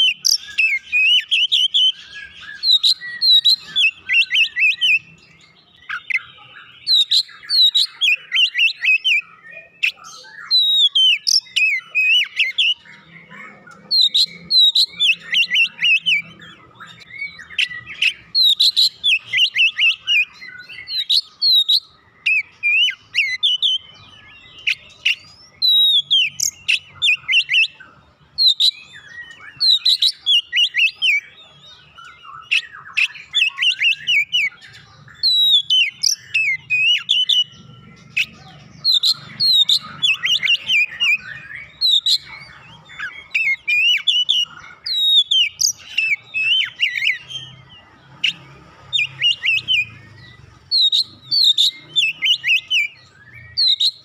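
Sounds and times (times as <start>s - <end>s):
songbird whistling and chirping: 0.0s - 54.0s.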